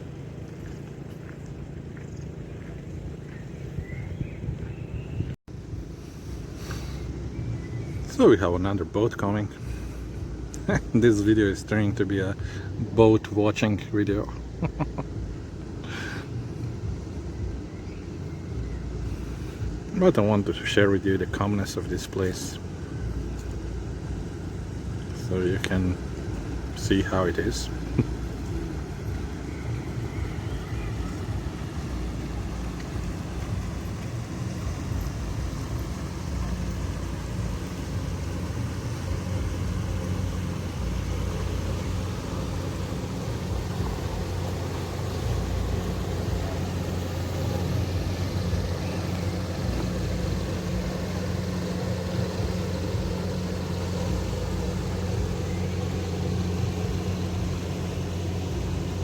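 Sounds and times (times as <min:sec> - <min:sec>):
low engine hum: 0:00.0 - 0:59.0
outdoor background noise: 0:00.0 - 0:59.0.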